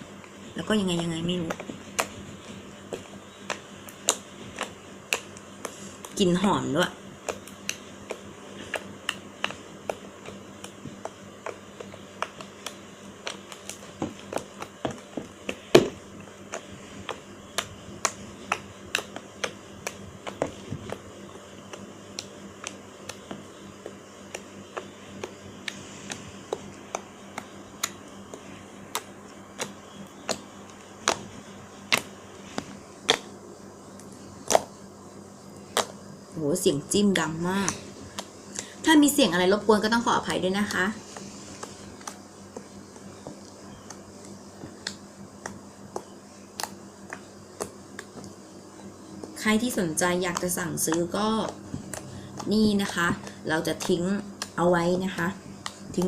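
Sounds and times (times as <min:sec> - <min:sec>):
fingers pressing slime: 0:00.2 - 0:34.8, 0:35.6 - 0:56.0.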